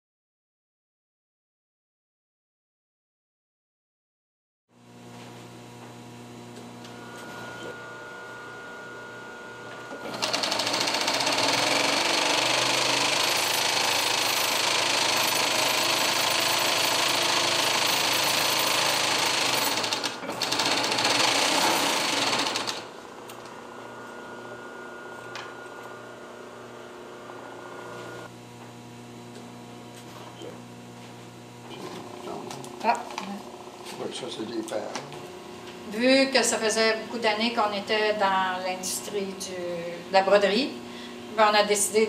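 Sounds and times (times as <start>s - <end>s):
steady motor hum: 4.8s - 42.0s.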